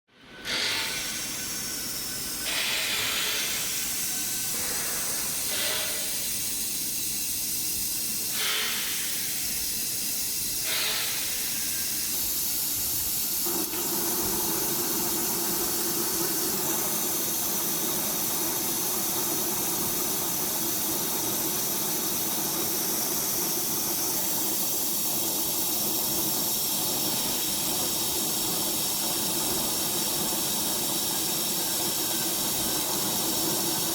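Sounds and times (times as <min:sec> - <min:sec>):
laser drilling machine hissing: 0:00.4 - 0:33.9.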